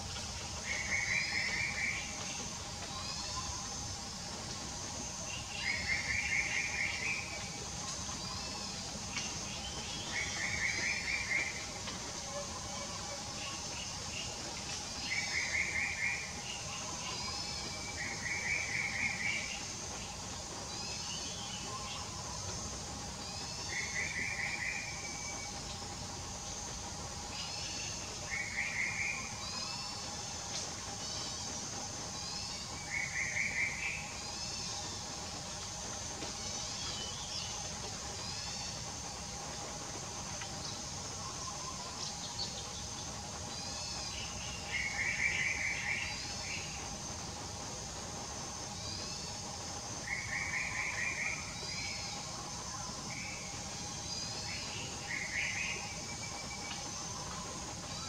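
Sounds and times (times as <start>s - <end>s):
faint steady drone: 0.0s - 58.0s
steady high hiss: 0.0s - 58.0s.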